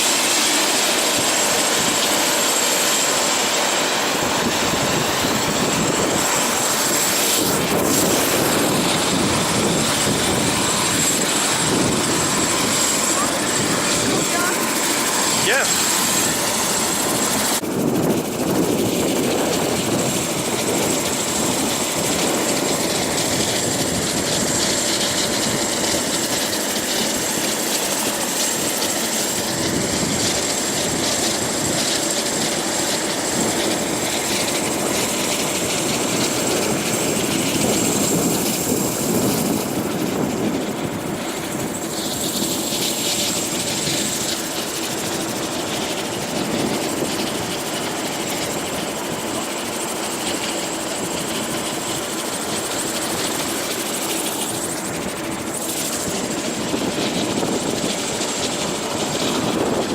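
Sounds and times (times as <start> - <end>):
helicopter rotor and engine din: 0.0 - 59.9.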